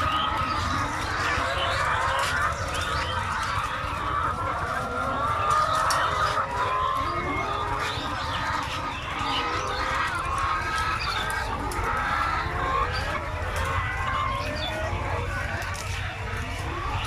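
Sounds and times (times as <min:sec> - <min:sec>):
chickens clucking in chorus: 0:00.0 - 0:17.0.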